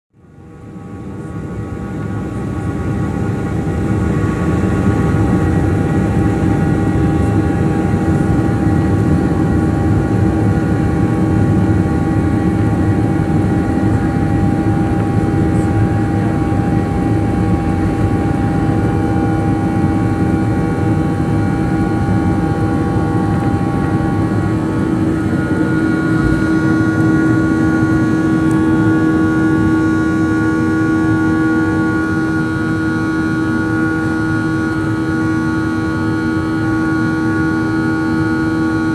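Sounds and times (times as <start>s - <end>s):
jet engine rumble with fan whine: 0.2s - 38.9s.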